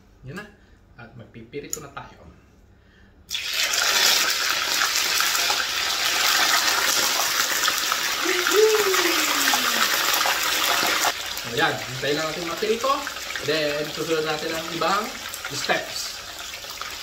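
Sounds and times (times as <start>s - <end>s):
fish sizzling in hot oil: 3.3s - 17.0s.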